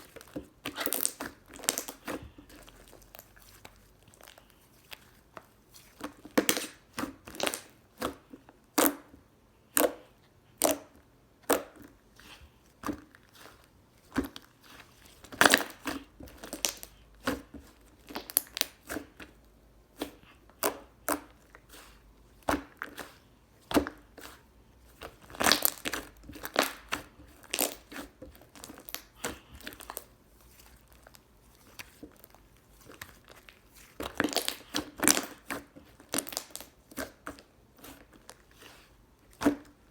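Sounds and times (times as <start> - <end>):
slime squished by hand: 0.0 - 9.1, 9.7 - 39.9.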